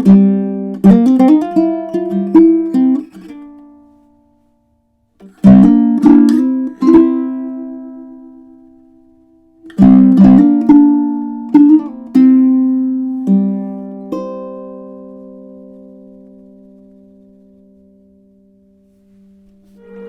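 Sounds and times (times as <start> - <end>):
ukulele plucked notes and chords: 0.0 - 4.0, 5.2 - 18.6, 19.6 - 20.0.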